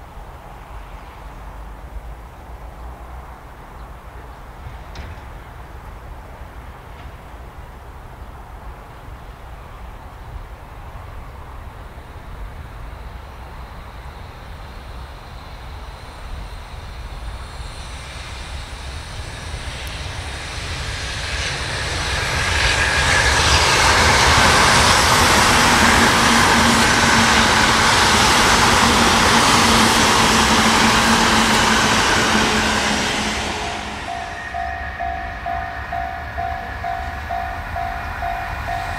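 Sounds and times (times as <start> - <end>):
electric train passing: 0.0 - 38.9.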